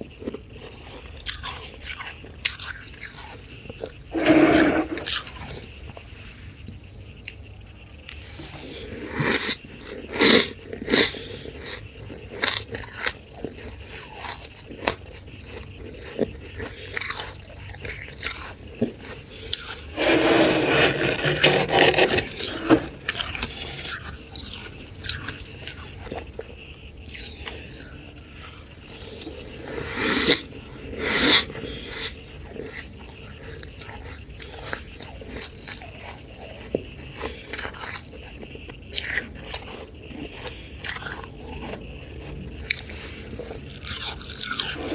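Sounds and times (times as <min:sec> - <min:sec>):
crunching and scraping frost: 0:00.0 - 0:07.4, 0:08.0 - 0:44.9.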